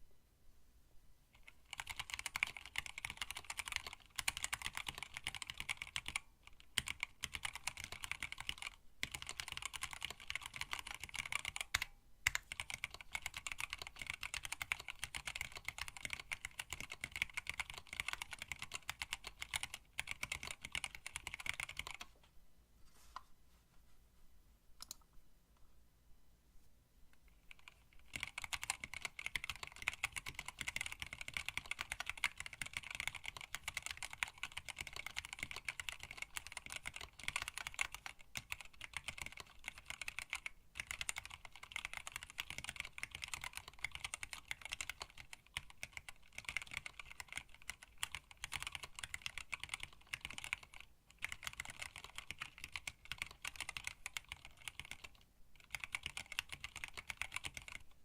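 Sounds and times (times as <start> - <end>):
fast typing on mechanical keyboard: 1.4 - 22.1, 27.4 - 58.0.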